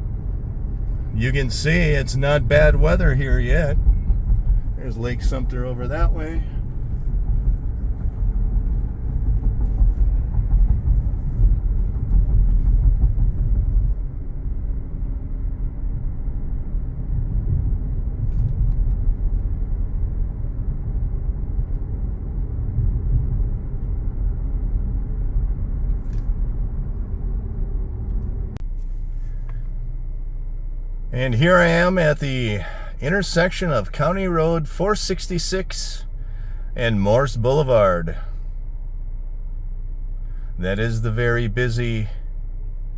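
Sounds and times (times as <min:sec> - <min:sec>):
car interior road rumble: 0:00.0 - 0:42.9.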